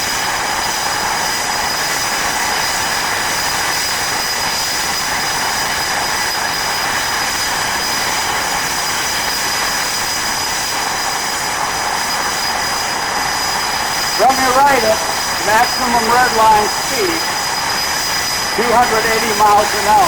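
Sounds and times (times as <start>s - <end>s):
jet engines running up: 0.0s - 20.0s.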